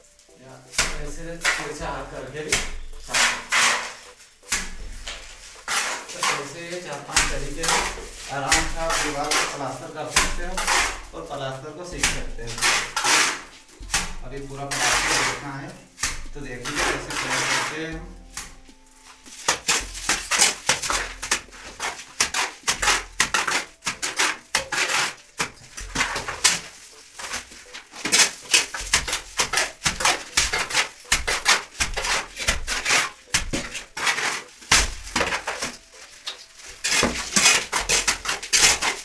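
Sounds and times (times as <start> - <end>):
mortar slapping onto wall: 0.7 - 17.7, 19.3 - 39.0
trowel scraping mortar: 0.7 - 39.0.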